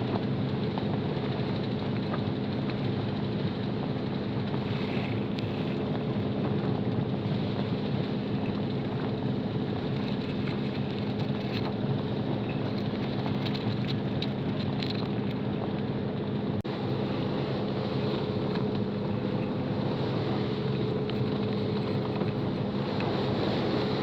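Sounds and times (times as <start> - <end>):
boat engine running: 0.0 - 24.0
wind buffeting microphone: 0.0 - 24.0.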